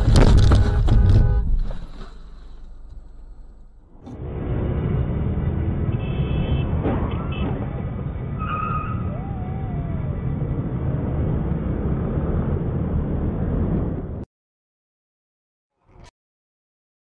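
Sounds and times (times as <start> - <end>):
traffic rumble: 0.0 - 14.2.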